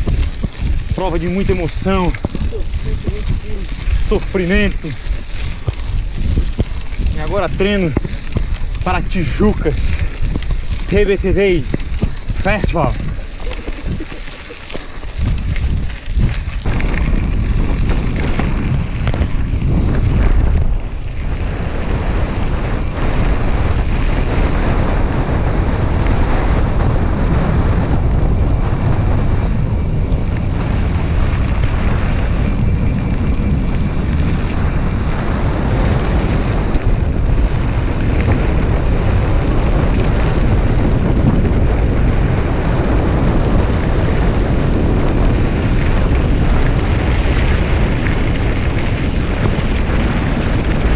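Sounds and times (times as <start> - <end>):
wind noise on microphone: 0.0 - 50.9.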